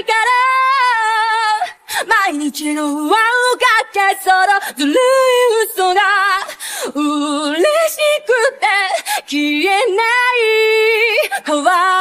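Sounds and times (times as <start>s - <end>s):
woman singing a cappella: 0.0s - 12.0s.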